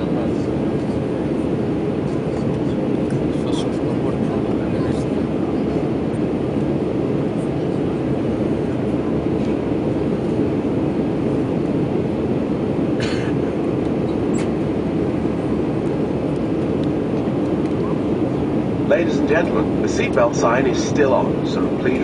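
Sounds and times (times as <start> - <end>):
airliner cabin drone: 0.0 - 22.0.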